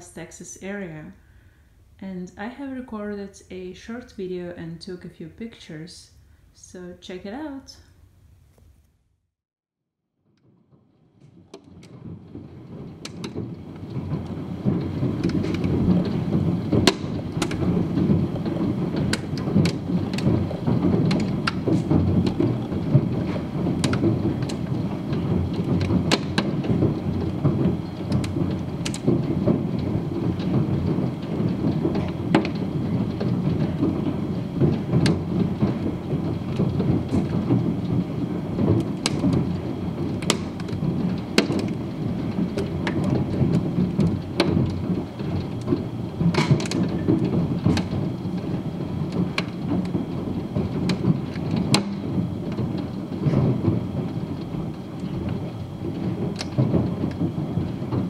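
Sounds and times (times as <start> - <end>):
hailstones clicking on stone: 10.4 - 58.0
heavy rain on stone: 10.8 - 58.0.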